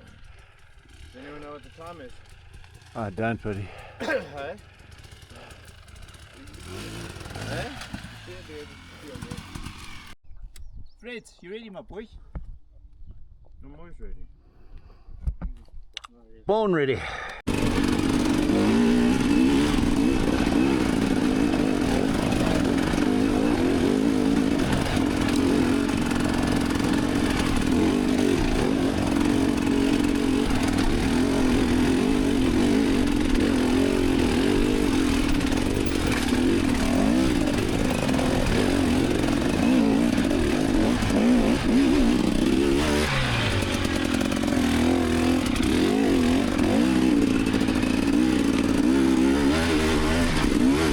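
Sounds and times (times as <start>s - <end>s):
dirt bike engine revving: 0.0s - 10.2s, 17.4s - 50.9s.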